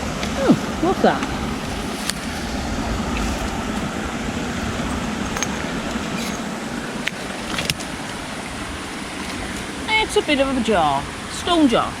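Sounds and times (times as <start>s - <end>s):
river water over rocks: 0.0s - 12.0s.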